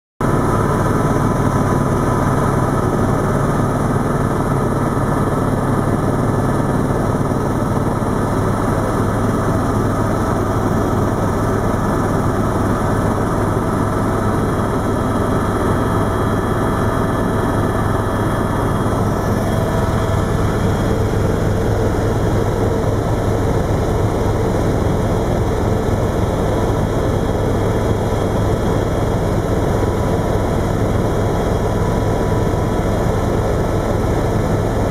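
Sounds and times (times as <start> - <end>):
helicopter engine and rotor drone: 0.2 - 34.9.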